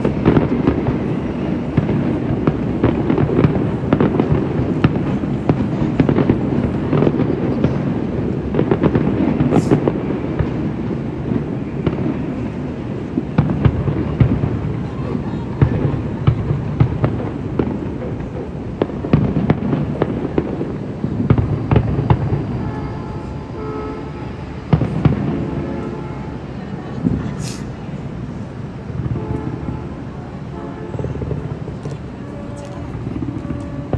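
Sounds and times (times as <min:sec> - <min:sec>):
fireworks cracking and banging: 0:00.0 - 0:33.9.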